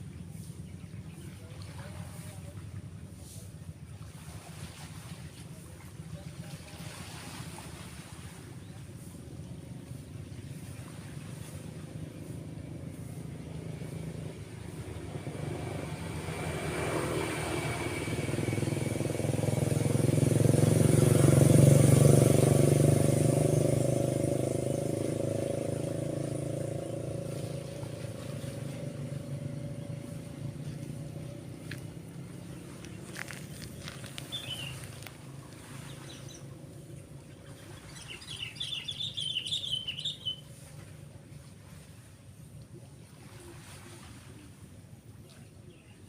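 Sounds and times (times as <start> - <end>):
faint surf: 0.0 - 46.0
vehicle engine passing by: 0.2 - 44.6.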